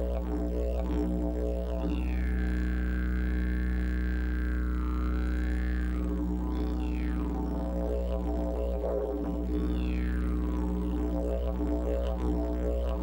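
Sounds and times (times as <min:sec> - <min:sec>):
didgeridoo low drone: 0:00.0 - 0:13.0.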